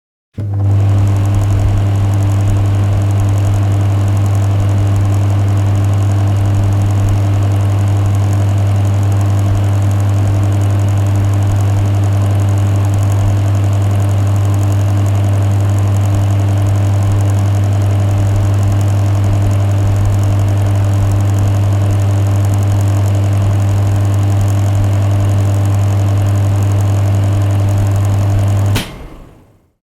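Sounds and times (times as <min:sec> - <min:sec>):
extractor fan humming: 0:00.4 - 0:29.7.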